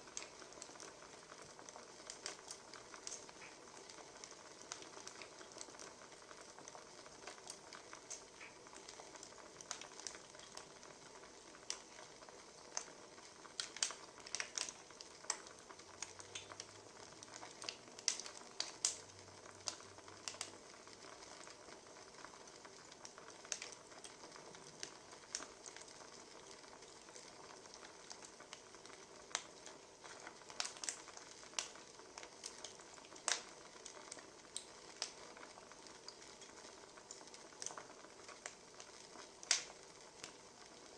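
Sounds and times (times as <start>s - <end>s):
faint hiss: 0.0s - 40.9s
wood fire crackling: 0.0s - 40.9s.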